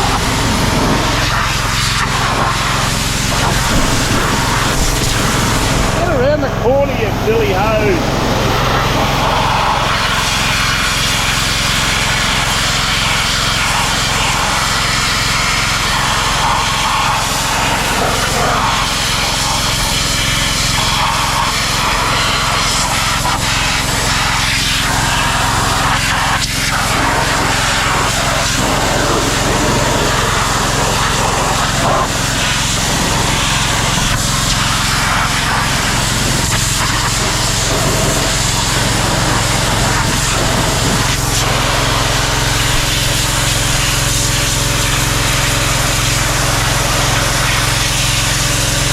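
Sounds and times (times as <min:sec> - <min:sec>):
small engine hum: 0:00.0 - 0:48.9
water jet hissing: 0:00.0 - 0:48.9.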